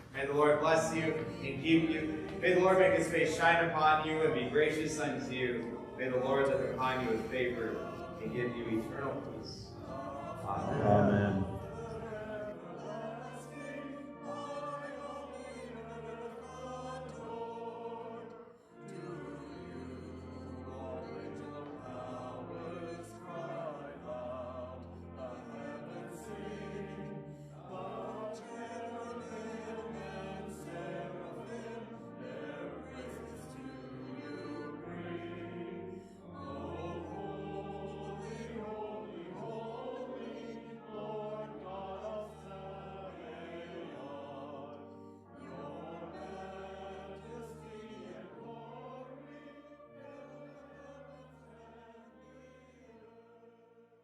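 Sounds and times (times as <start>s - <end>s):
church music sustained chords: 0.0s - 54.0s.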